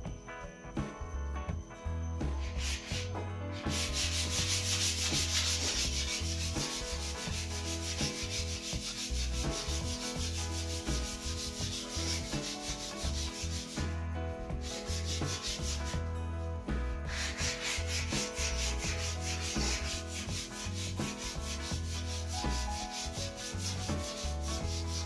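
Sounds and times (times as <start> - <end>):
sandpaper rubbing on wood: 2.4 - 14.0, 14.6 - 16.0, 17.1 - 25.0.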